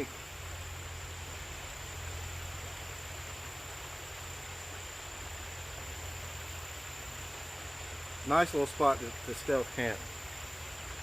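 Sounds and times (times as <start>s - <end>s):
creek water rushing: 0.0s - 11.0s
low steady hum: 0.0s - 11.0s.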